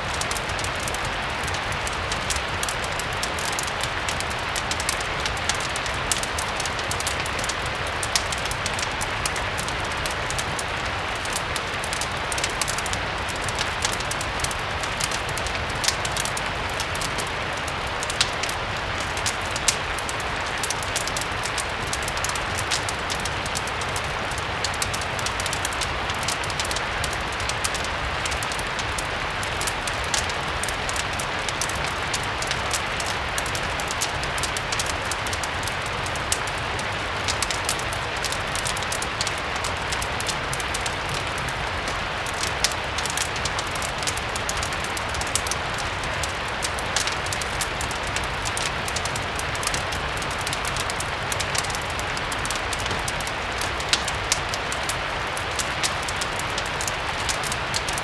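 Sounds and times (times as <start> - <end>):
fireplace crackling: 0.0 - 58.0
gentle steady rain: 0.0 - 58.0.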